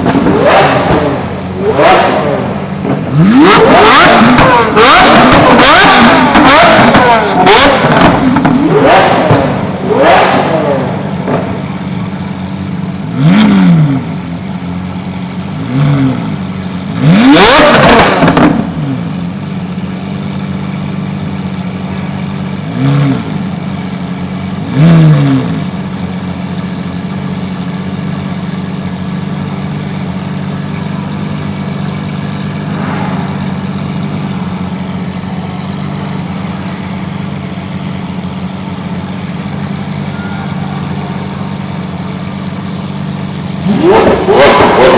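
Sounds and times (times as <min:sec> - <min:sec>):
supercar engines revving: 0:00.0 - 0:44.9.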